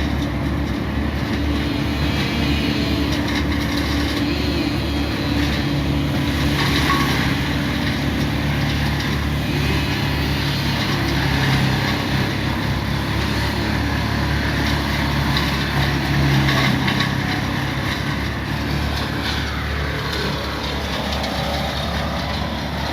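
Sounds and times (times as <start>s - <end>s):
heavy engine running: 0.0s - 22.9s.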